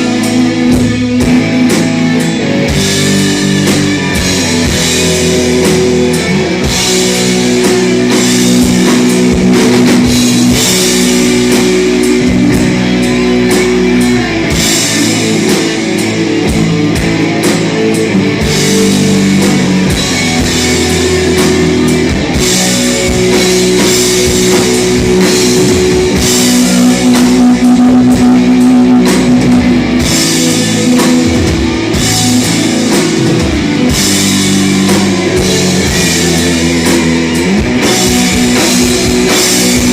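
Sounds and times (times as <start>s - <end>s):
drum kit: 0.0s - 39.9s
electric guitar chords: 0.0s - 39.9s.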